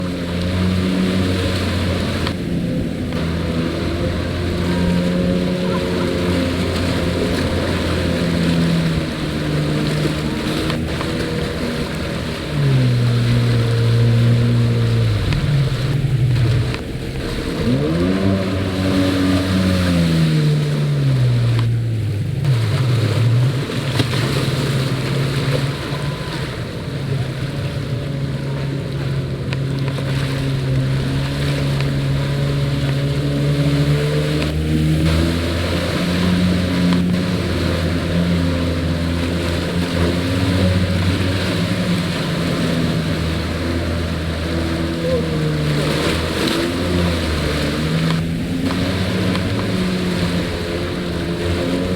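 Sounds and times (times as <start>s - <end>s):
jet ski engine running: 0.0s - 51.9s
water and wind noise: 0.0s - 51.9s.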